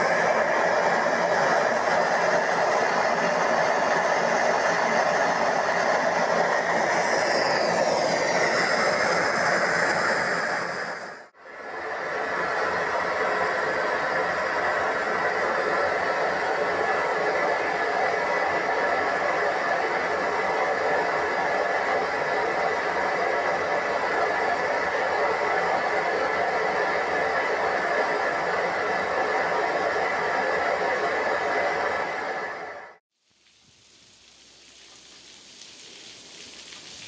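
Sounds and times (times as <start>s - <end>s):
forge rushing hiss: 0.0s - 32.7s.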